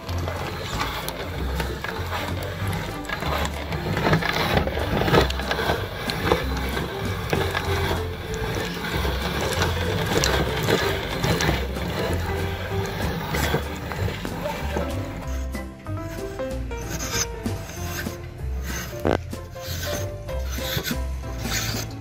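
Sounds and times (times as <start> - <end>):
background music with bass: 0.0 - 22.0
meat grinder crackling: 0.0 - 22.0.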